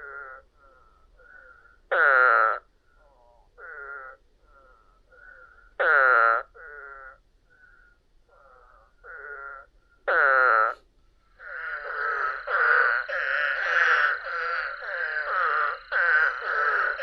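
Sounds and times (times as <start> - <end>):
frog calls: 0.0 - 17.0.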